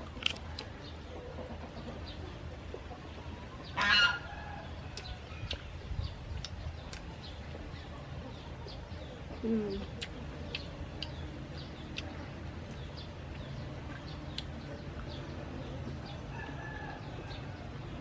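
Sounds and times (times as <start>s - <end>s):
low background noise: 0.0s - 18.0s
small birds chirping: 0.1s - 18.0s.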